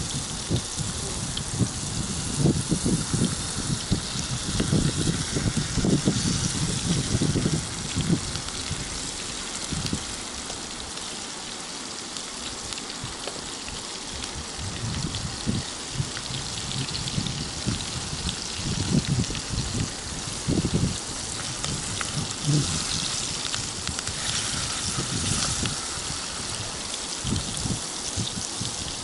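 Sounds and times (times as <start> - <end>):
fish frying in oil: 0.0 - 29.0.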